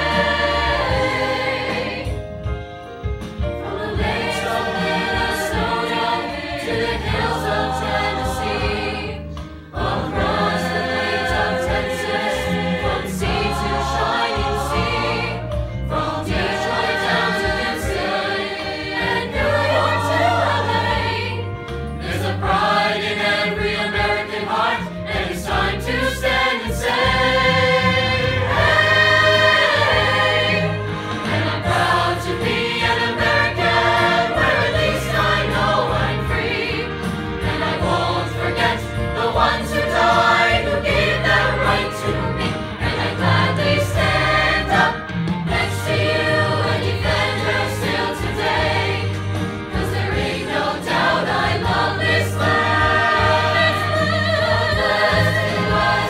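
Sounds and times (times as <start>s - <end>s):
mixed choir singing in harmony: 0.0s - 56.0s.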